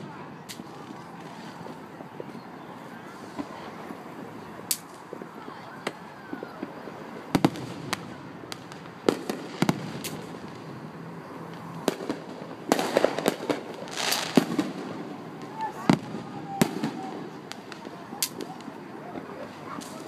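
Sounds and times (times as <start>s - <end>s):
fireworks pops and crackle: 0.0s - 2.5s, 3.2s - 20.0s
fireworks bangs: 0.0s - 20.0s.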